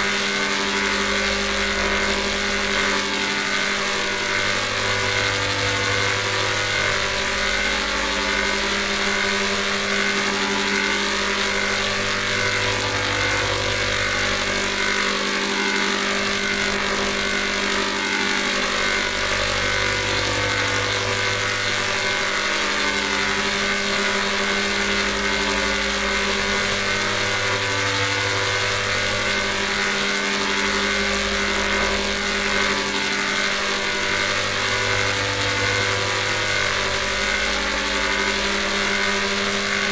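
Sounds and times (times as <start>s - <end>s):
electronic drone: 0.0s - 39.9s.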